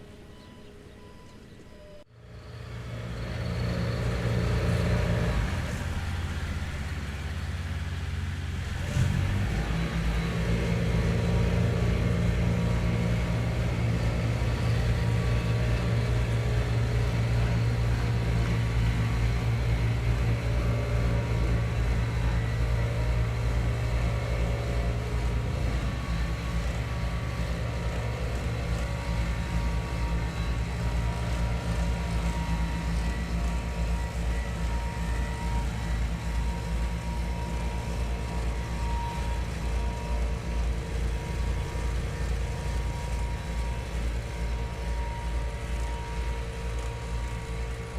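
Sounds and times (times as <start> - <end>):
construction vehicle engine running: 0.0 - 47.9.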